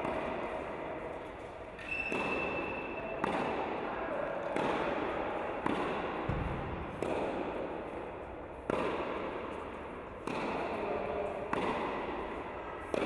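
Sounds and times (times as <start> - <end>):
tennis balls struck by rackets: 0.0 - 13.0.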